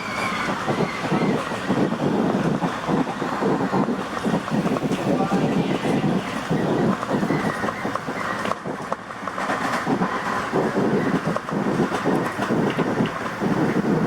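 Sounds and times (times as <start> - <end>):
electric train running: 0.0 - 14.0
wheels clicking over track: 0.0 - 14.0.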